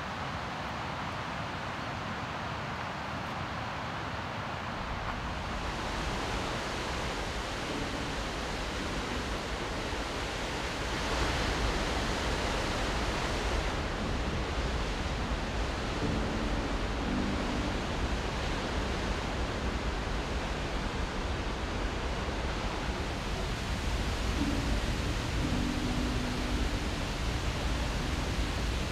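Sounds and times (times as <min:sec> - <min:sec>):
waterfall rushing: 0:04.3 - 0:28.9.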